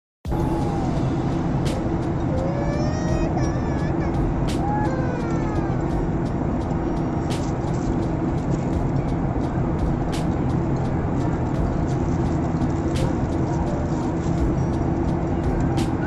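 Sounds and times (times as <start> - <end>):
airliner cabin engine rumble: 0.3 - 16.0
constant hum: 0.3 - 16.0.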